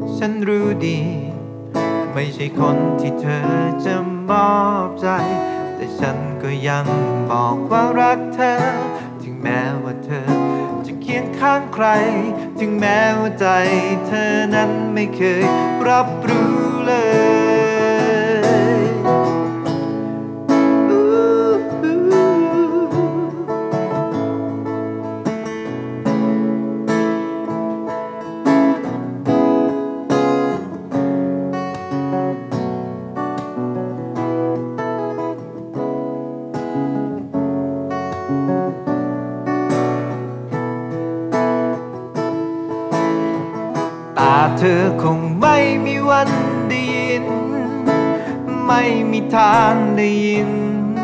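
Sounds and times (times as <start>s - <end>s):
acoustic guitar: 0.0s - 51.0s.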